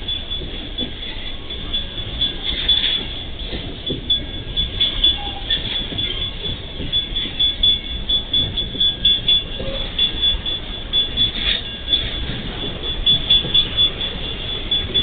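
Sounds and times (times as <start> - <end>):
high-pitched wheel squeal: 0.0 - 15.0
train rumble: 0.0 - 15.0.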